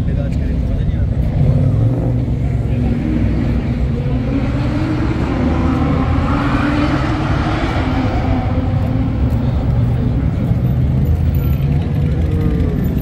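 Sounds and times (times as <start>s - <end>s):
sports car engine rumbling: 0.0s - 13.0s.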